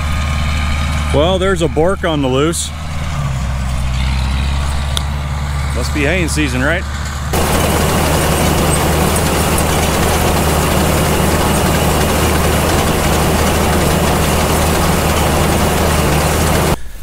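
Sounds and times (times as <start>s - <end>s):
baler mechanical drone: 0.0s - 16.8s
tractor engine running: 0.0s - 16.8s.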